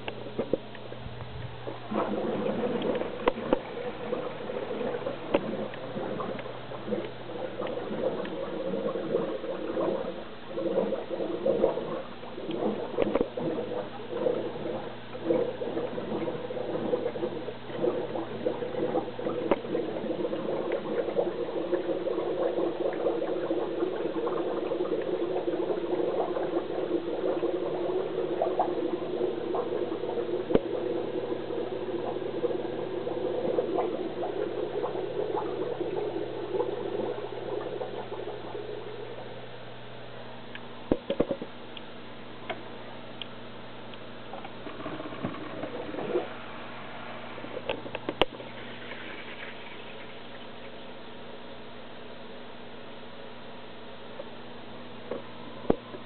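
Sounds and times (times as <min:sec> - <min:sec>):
water and air gurgling: 0:00.0 - 0:51.5
aquarium filter humming: 0:00.0 - 0:56.0.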